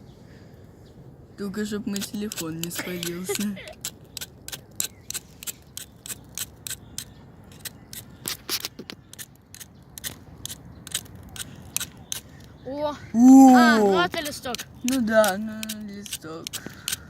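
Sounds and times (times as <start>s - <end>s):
campfire crackling: 1.0s - 17.0s.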